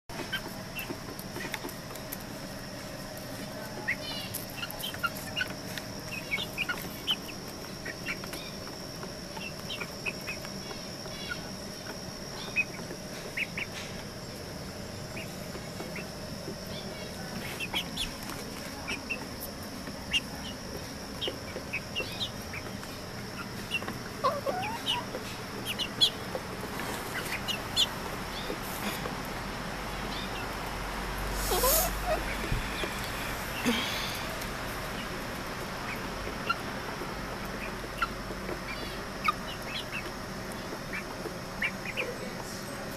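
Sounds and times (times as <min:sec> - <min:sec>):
chicks peeping and chirping: 0:00.1 - 0:42.9.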